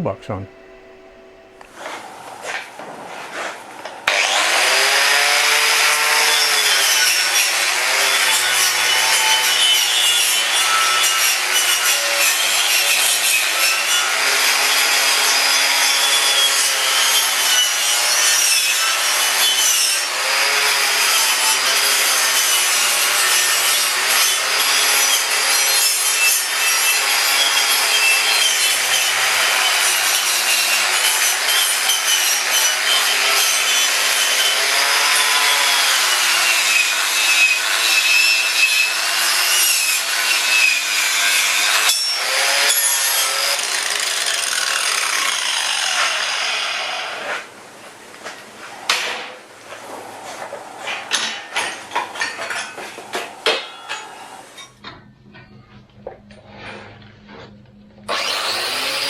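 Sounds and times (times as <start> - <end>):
power tool grinding steel welds: 4.0 - 47.5, 48.8 - 54.9, 58.1 - 59.0.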